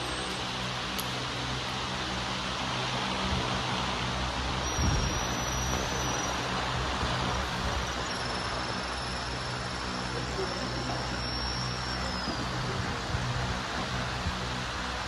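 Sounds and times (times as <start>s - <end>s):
low hum of distant traffic: 0.0s - 15.0s.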